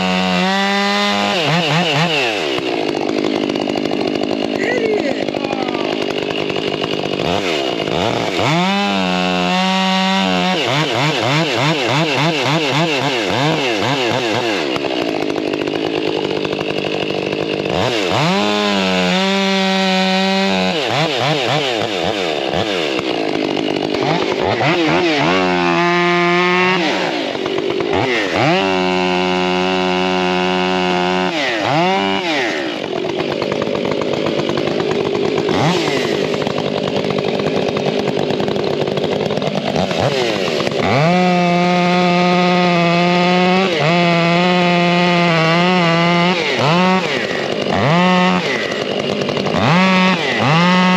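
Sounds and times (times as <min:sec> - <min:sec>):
chainsaw cutting firewood: 0:00.0 - 0:50.9.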